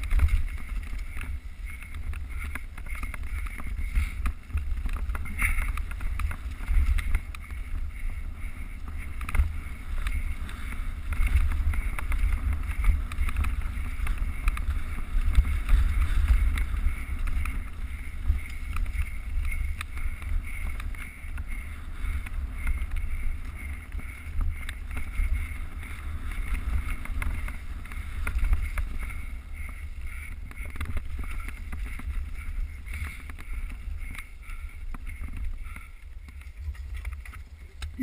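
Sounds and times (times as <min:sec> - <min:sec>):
bike knocks and rattles: 0:00.0 - 0:38.0
wind buffeting microphone: 0:00.0 - 0:38.0.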